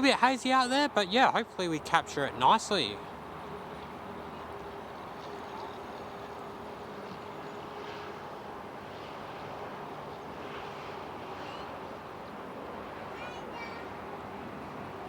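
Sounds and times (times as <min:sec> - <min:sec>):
rumble of far-off aircraft: 0:01.0 - 0:15.0.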